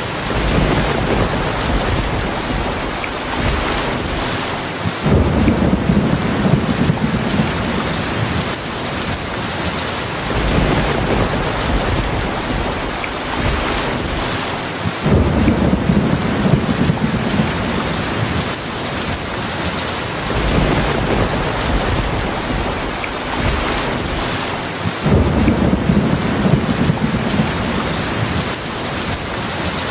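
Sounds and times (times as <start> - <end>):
thunder rumbling: 0.0 - 29.1
heavy rain: 0.0 - 29.9.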